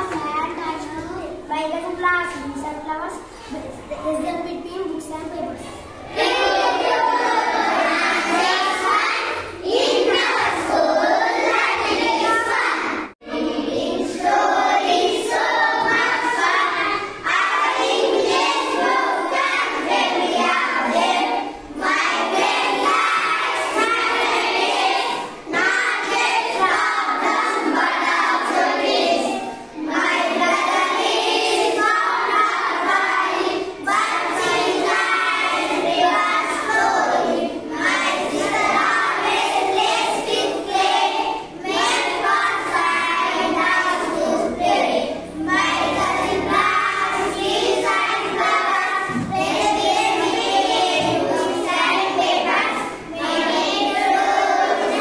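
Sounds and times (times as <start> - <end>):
children singing in unison: 5.8 - 55.0.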